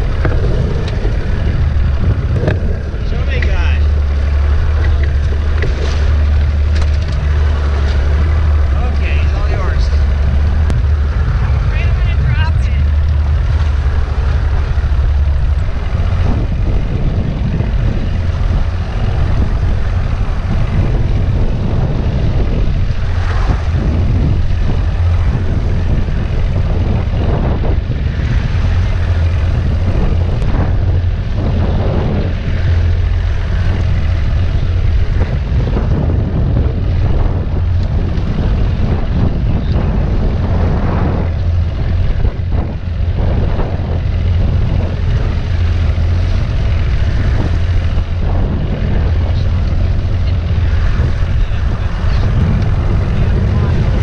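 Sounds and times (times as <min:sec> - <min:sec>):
boat engine hum: 0:00.0 - 0:54.0
wind buffeting microphone: 0:00.0 - 0:54.0.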